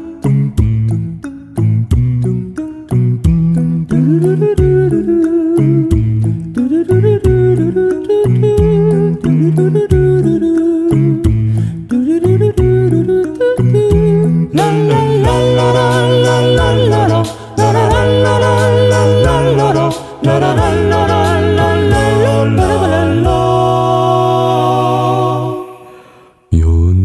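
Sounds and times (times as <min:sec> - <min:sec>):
beatboxed percussion hits: 0:00.0 - 0:23.9
deep vocal bass line: 0:03.1 - 0:27.0
a cappella group singing harmonies: 0:03.9 - 0:26.6.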